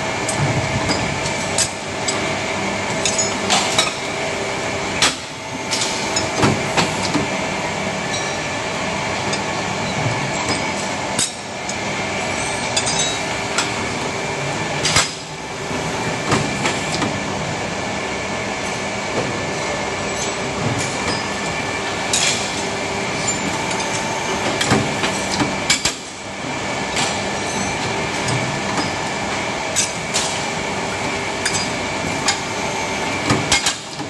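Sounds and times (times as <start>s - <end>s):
machinery hum: 0.0s - 34.0s.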